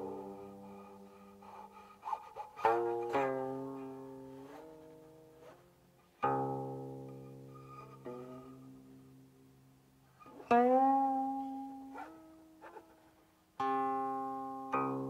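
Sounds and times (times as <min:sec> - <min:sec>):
zither plucked notes: 0:00.0 - 0:09.6, 0:10.2 - 0:15.0.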